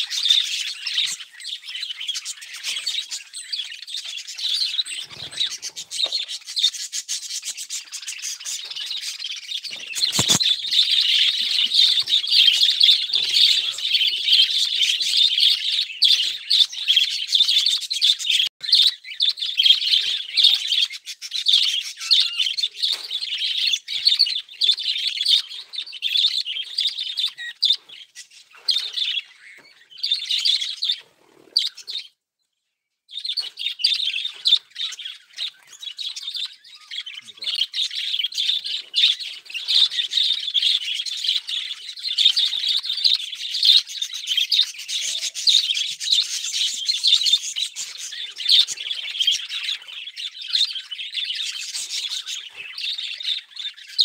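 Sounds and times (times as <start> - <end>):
budgerigars chattering and chirping: 0.0 - 32.1, 33.1 - 54.0.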